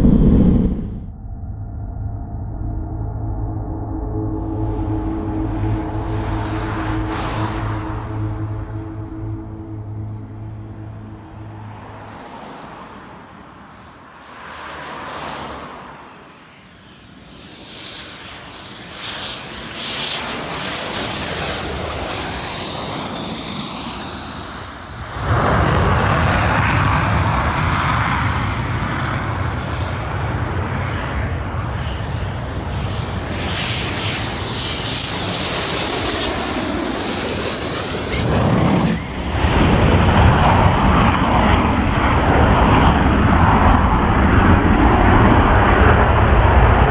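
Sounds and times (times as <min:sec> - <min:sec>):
deep jet rumble: 0:00.0 - 0:13.9, 0:20.3 - 0:46.9
jet engine whine: 0:00.0 - 0:46.9.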